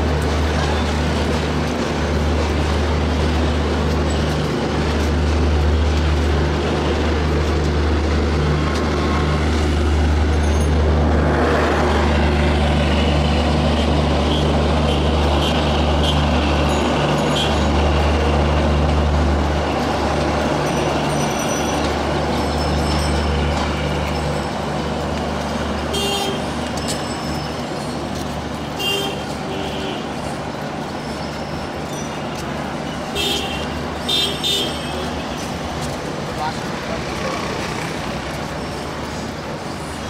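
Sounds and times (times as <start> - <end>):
diesel engine drone: 0.0 - 40.0
train rolling noise: 0.0 - 40.0.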